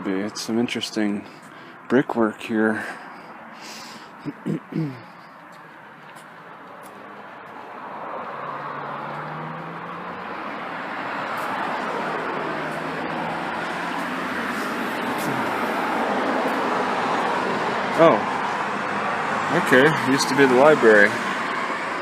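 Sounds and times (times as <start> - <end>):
vehicle passing: 2.8 - 22.0.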